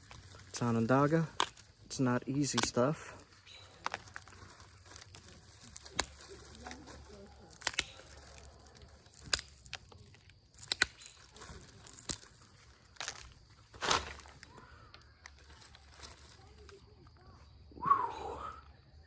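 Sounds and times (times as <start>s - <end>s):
stone flakes snapping: 0.0s - 1.8s, 2.4s - 2.9s, 3.5s - 16.6s.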